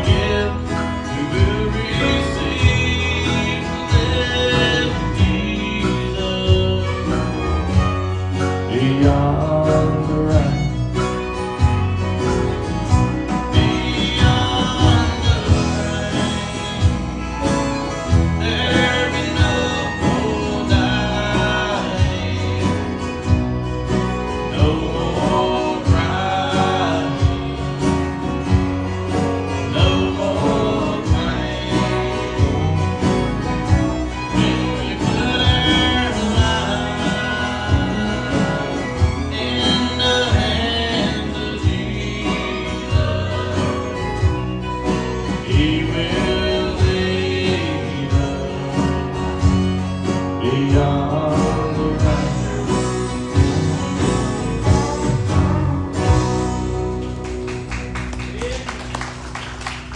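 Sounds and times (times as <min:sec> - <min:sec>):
person singing: 0:00.0 - 0:11.3, 0:13.3 - 0:56.4
country song with guitar: 0:00.0 - 0:59.9.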